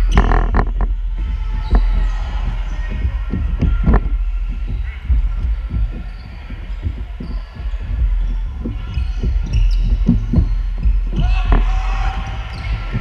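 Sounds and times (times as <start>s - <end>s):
deep steady rumble: 0.0s - 13.0s.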